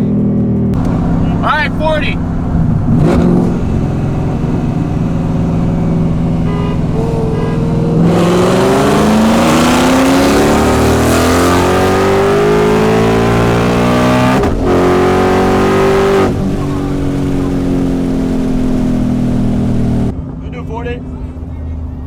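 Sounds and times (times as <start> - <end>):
car engine accelerating: 0.8 - 20.1.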